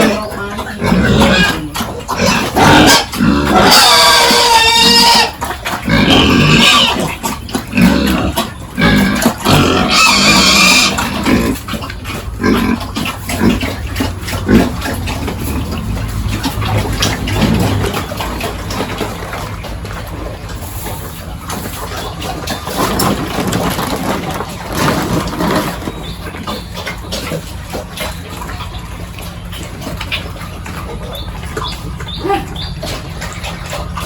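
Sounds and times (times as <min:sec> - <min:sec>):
pigs grunting: 0:00.0 - 0:34.0
pigs squealing: 0:00.0 - 0:34.0.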